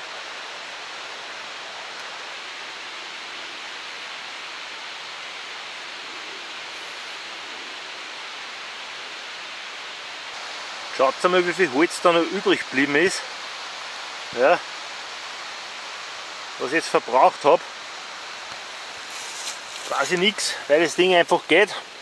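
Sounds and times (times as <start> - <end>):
steady outdoor rushing noise: 0.0 - 22.0.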